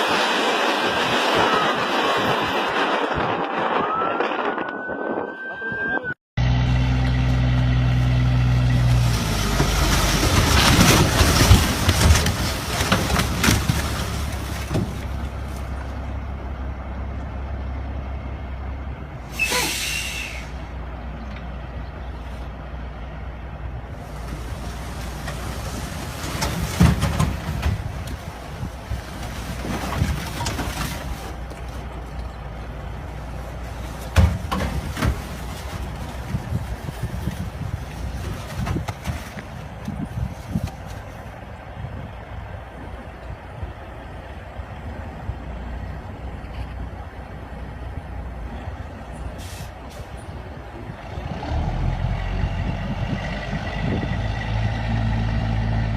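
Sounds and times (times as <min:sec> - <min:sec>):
loud rough road noise: 0:00.0 - 0:04.5, 0:06.4 - 0:55.9.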